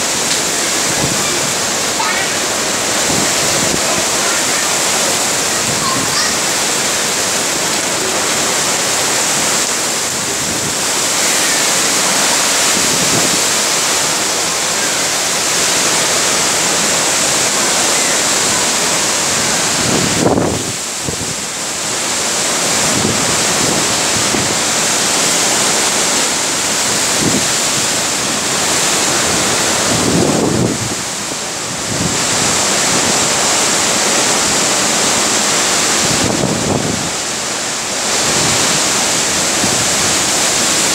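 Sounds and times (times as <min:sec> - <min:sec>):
strong wind rushing through trees: 0:00.0 - 0:40.9.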